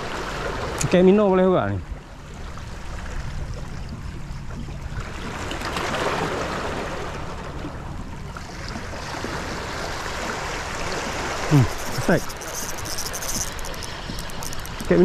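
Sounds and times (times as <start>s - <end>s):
sea water lapping at shore: 0.0s - 15.0s.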